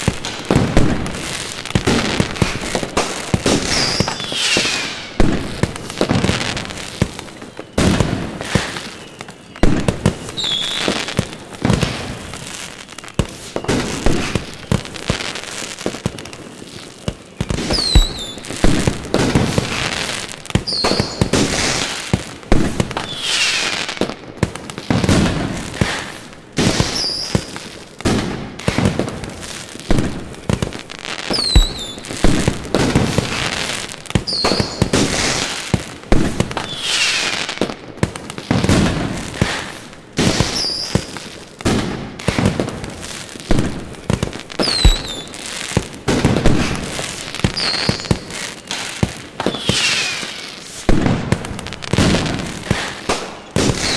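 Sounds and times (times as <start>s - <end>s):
falling firework whistles: 0.0s - 24.1s, 24.7s - 53.9s
firework bangs and crackling: 0.0s - 53.9s.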